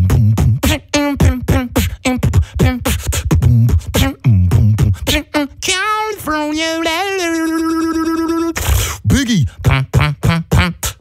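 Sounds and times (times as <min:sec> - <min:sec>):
held vocal note bending: 0:00.0 - 0:11.0
person beatboxing: 0:00.0 - 0:11.0.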